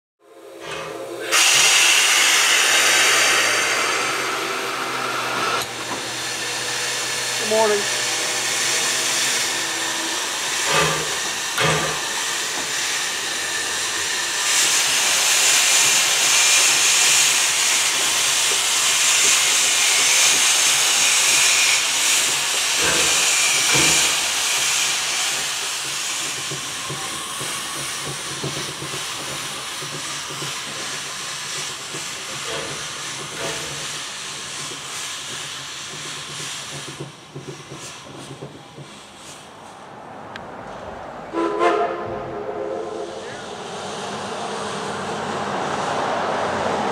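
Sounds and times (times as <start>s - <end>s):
steam locomotive hissing steam: 0.3s - 40.1s, 41.3s - 46.9s.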